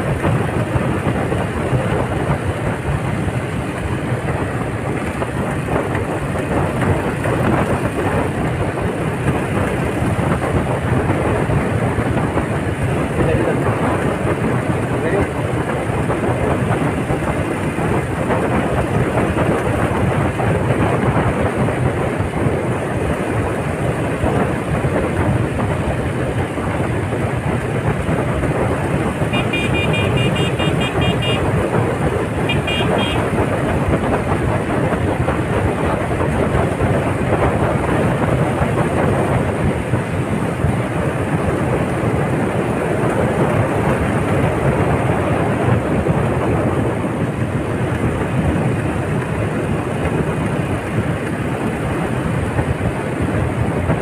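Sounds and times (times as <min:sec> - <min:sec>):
vehicle and road noise: 0:00.0 - 0:54.0
wind rush on microphone: 0:00.0 - 0:54.0.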